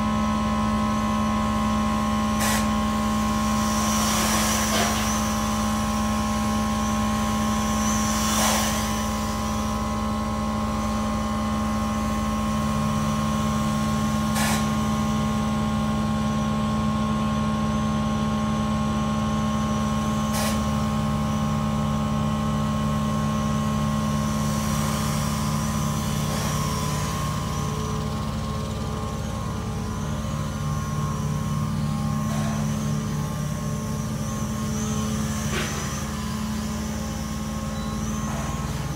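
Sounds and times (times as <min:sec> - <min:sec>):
quadcopter propeller whine: 0:00.0 - 0:38.9
steady mechanical hum: 0:00.0 - 0:38.9.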